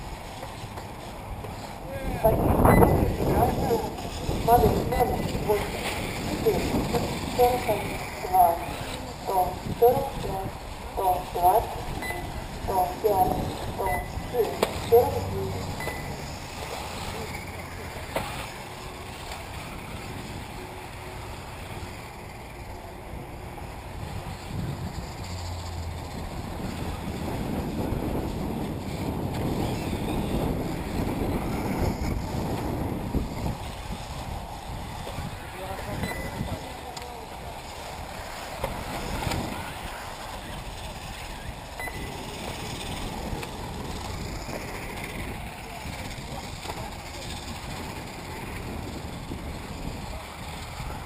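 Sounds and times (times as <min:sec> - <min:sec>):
wind on microphone: 0:00.0 - 0:22.0, 0:23.4 - 0:51.0
faint electric rc cars running: 0:00.0 - 0:51.0.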